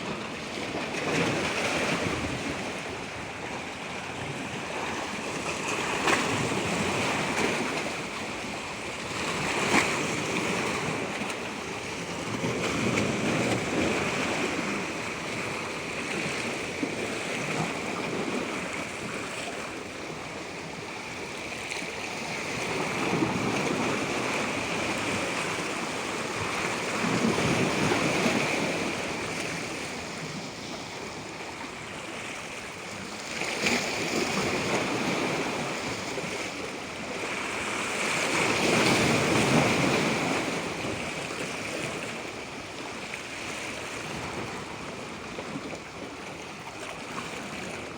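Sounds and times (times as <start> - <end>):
water washing in waves: 0.0 - 47.9.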